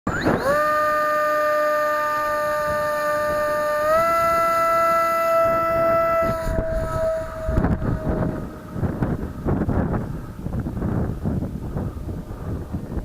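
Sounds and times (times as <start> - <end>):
electric motor and propeller whining: 0.1 - 13.0
wind rumbling on microphone: 0.1 - 13.0.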